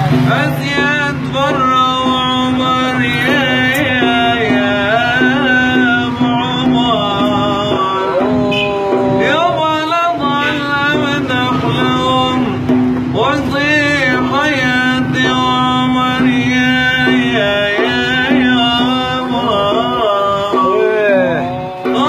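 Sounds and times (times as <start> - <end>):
man singing into a plastic bowl: 0.0 - 22.0.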